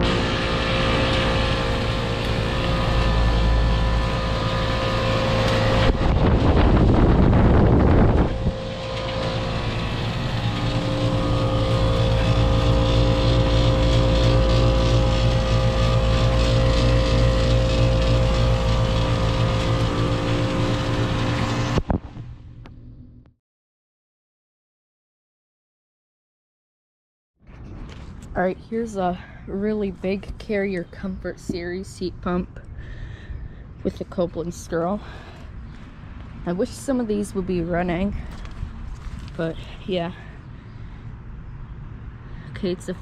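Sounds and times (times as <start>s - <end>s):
compressor hum with fan noise: 0.0s - 23.3s, 27.5s - 43.0s.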